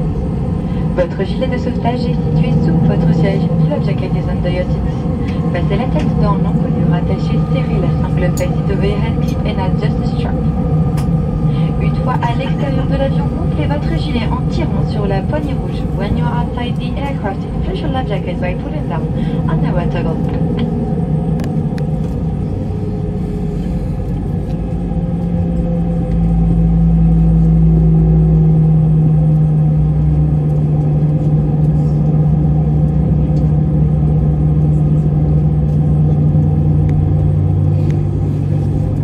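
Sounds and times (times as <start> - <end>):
jet engine drone: 0.0 - 39.0
low rumble: 0.0 - 39.0.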